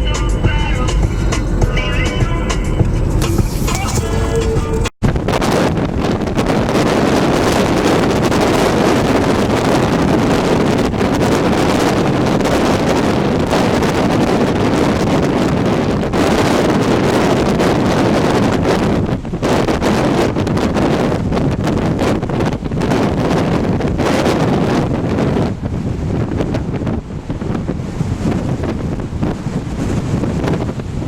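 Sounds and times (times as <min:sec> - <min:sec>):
wind blowing on microphone: 0:00.0 - 0:31.0.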